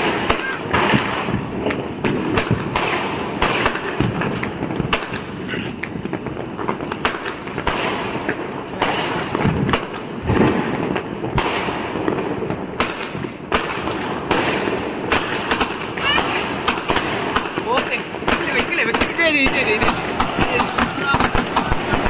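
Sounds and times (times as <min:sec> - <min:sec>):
firework bangs: 0:00.0 - 0:22.0.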